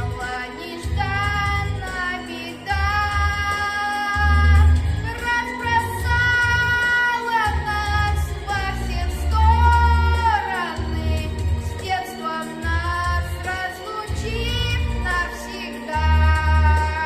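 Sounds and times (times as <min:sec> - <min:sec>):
boy singing: 0:00.0 - 0:17.0
instrumental backing track: 0:00.0 - 0:17.0.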